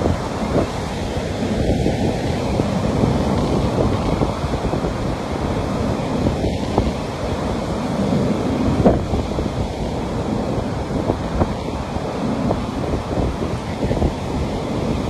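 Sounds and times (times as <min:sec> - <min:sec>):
ocean surf on beach: 0:00.0 - 0:15.0
wind rumbling on microphone: 0:00.0 - 0:15.0.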